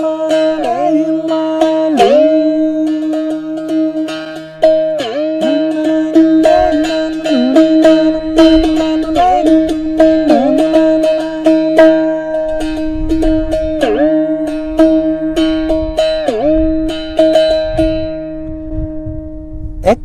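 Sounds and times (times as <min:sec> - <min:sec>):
one-string plucked drone: 0:00.0 - 0:20.0.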